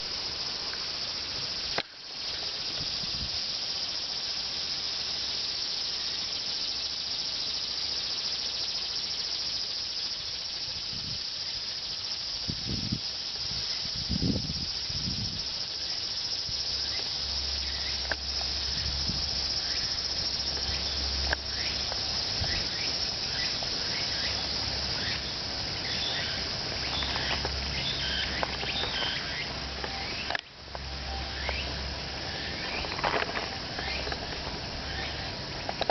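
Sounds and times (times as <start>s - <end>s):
cicadas droning: 0.0s - 35.9s.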